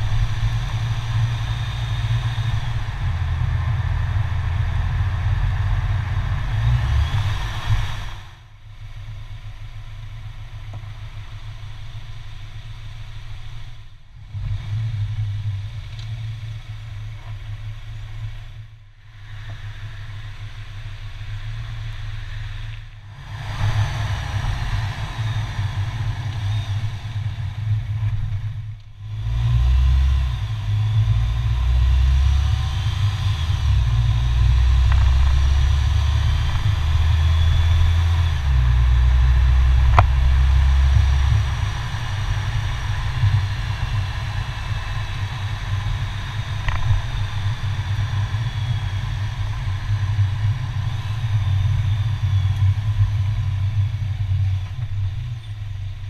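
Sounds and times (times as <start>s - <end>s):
wind rumble on microphone: 0.0s - 8.4s, 14.1s - 56.0s
road and engine noise: 0.0s - 56.0s.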